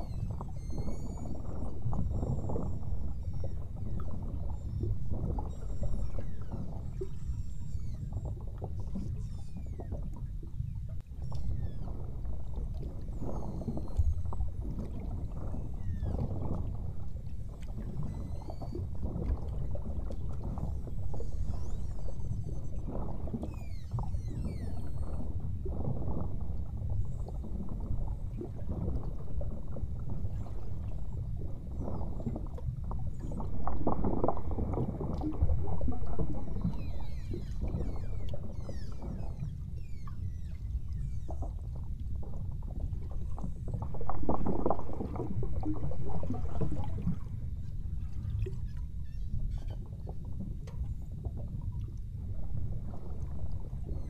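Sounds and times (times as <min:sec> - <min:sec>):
whale whistles and chirps: 0:00.0 - 0:51.2, 0:52.4 - 0:54.0
churning water underwater: 0:00.0 - 0:54.0.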